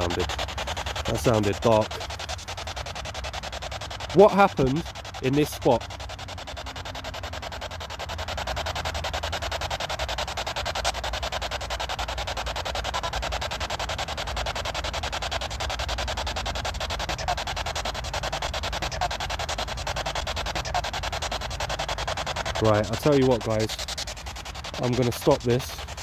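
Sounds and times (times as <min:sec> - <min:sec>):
stuttering radio static hiss: 0:00.0 - 0:26.0.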